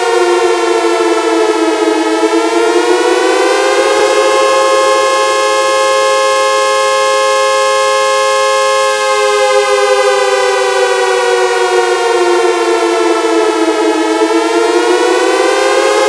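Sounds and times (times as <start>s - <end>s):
synthesized air-raid siren: 0.0s - 16.0s.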